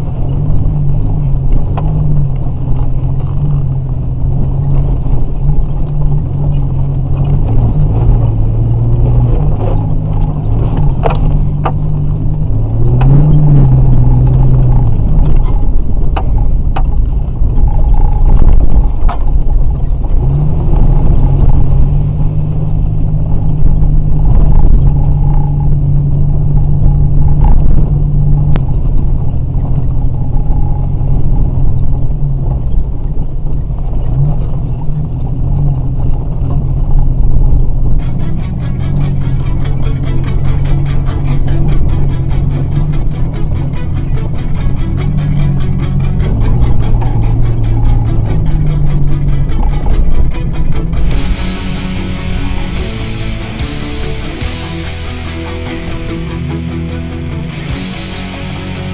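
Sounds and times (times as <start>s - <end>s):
road rumble: 0.0s - 58.9s
vehicle engine drone: 0.0s - 58.9s
vehicle rattling over bumps: 0.0s - 58.9s.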